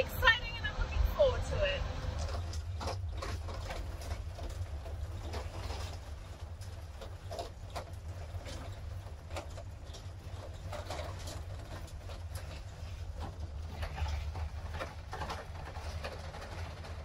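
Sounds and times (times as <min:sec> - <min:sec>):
van engine and road drone: 0:00.0 - 0:17.0
clicks and rattles: 0:02.0 - 0:17.0.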